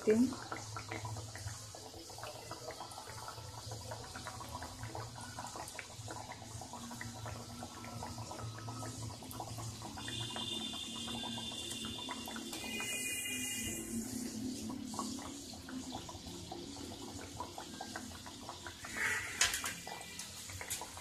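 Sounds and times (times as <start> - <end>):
deep-frying in hot oil: 0.0 - 21.0
oil crackles and pops: 0.0 - 21.0.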